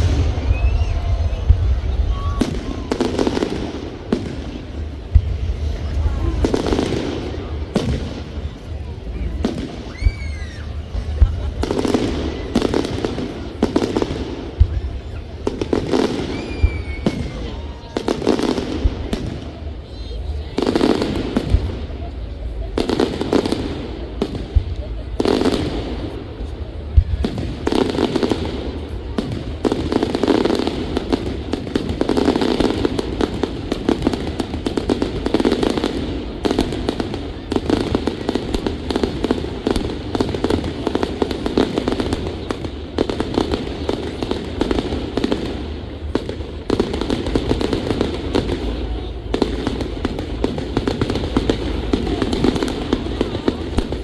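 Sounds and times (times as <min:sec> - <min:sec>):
crowd voices: 0:00.0 - 0:54.0
fireworks bangs and crackling: 0:00.0 - 0:54.0.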